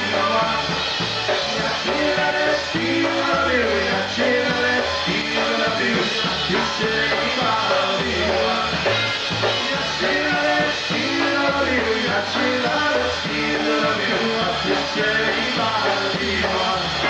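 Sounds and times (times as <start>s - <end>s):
bass line: 0.0s - 17.0s
polka band playing: 0.0s - 17.0s.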